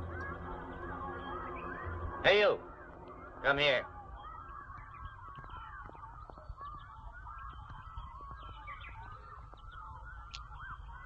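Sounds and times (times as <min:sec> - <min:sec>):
many birds chirping: 0:00.0 - 0:11.0.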